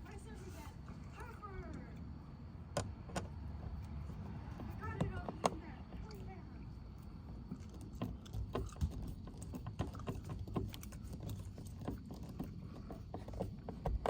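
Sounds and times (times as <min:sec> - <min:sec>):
small clicks and knocks: 0:02.7 - 0:14.0.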